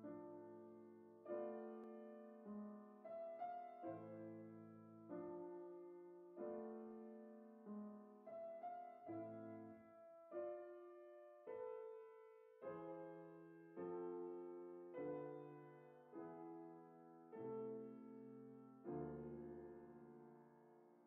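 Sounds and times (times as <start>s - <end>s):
piano playing slow chords: 0.0s - 21.0s.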